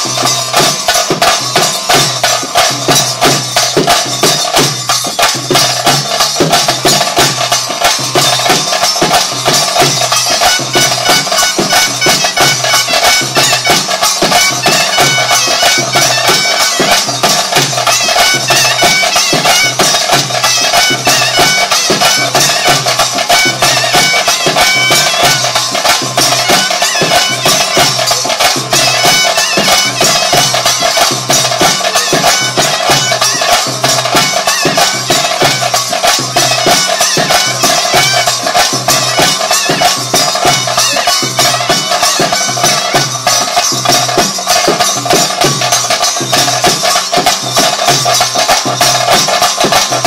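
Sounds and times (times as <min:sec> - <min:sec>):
fast continuous drumming: 0:00.0 - 0:50.0
shrill reed pipe melody: 0:05.8 - 0:49.9.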